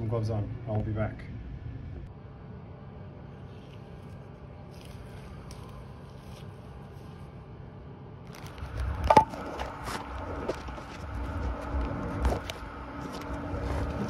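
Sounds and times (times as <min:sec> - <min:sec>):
faint steady hum: 0:00.0 - 0:14.0
low rumbling street background: 0:00.0 - 0:14.0.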